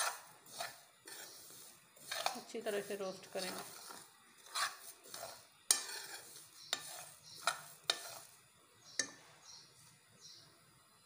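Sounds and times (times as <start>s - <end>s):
spoon scraping seeds in pan: 0.0s - 9.8s.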